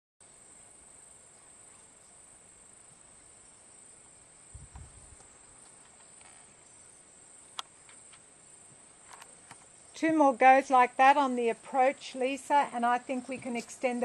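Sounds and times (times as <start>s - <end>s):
insects chirring: 0.2s - 14.0s.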